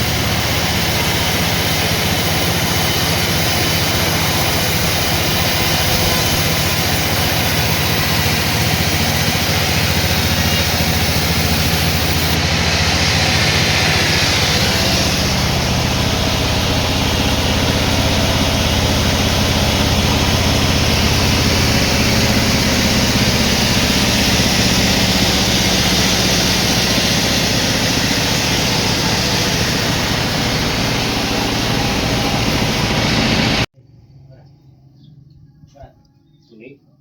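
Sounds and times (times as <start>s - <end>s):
sawmill machinery running: 0.0s - 33.7s.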